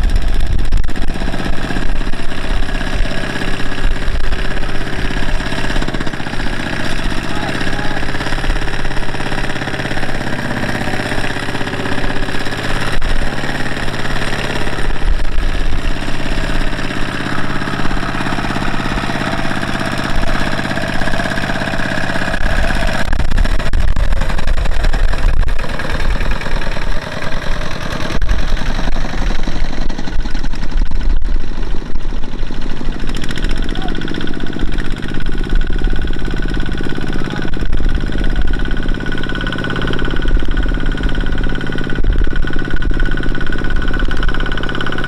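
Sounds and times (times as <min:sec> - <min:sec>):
diesel engine chugging: 0:00.0 - 0:45.0.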